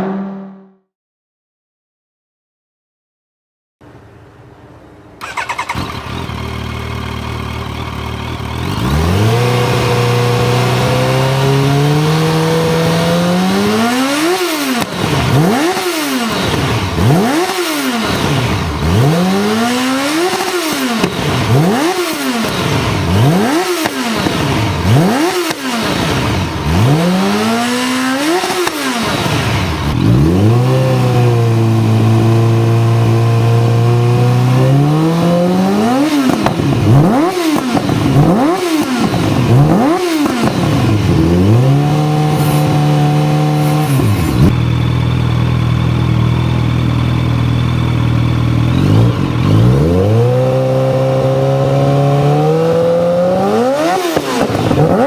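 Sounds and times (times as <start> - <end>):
motorcycle engine idling and revving: 0.0 - 0.8, 3.9 - 55.0.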